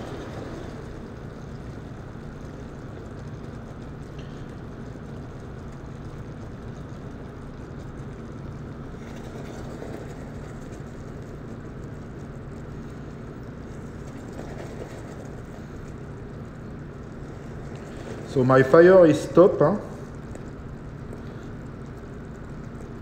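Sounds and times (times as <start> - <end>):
caramel bubbling and hissing: 0.0 - 23.0
cream being poured and stirred: 0.0 - 23.0
steady low hum: 0.0 - 23.0.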